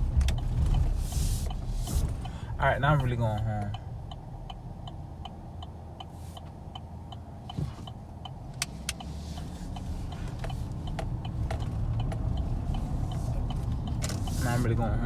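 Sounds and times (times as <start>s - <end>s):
even ticking: 0.0s - 14.8s
car engine and road rumble: 0.0s - 15.0s.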